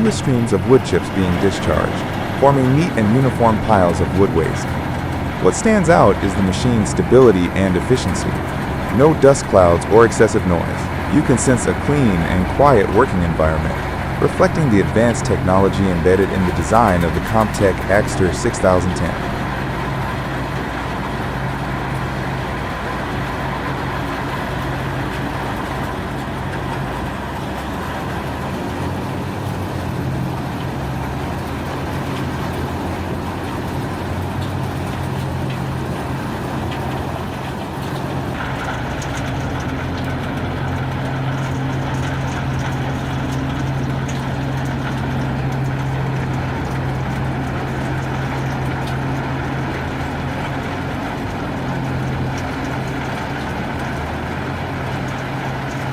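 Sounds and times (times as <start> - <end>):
engine drone: 0.0 - 55.9
wood shredder grinding: 0.0 - 55.9.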